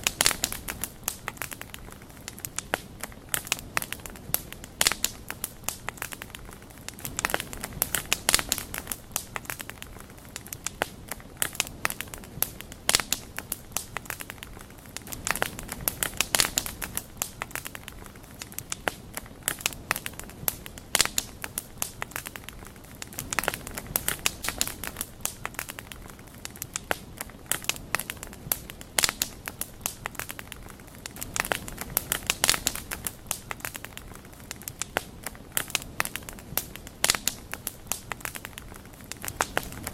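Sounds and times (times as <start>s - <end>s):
soft hiss of flames: 0.0s - 39.9s
wood fire crackling: 0.0s - 39.9s.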